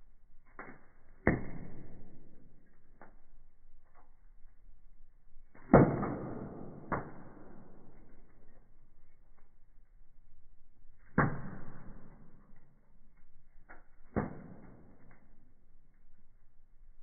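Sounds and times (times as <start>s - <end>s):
firewood burning and popping: 0.0s - 17.0s.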